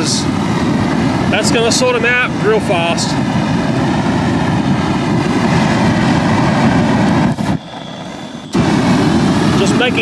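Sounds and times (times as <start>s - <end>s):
flamethrower rushing flame: 0.0s - 10.0s.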